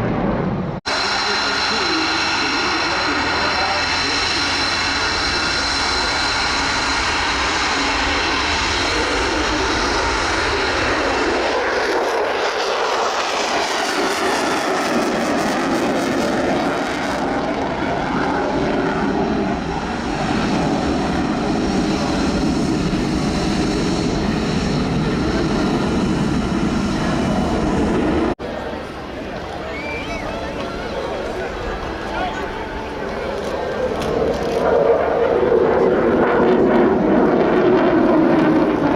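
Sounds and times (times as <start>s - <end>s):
jet fighter engine roar: 0.0s - 38.9s.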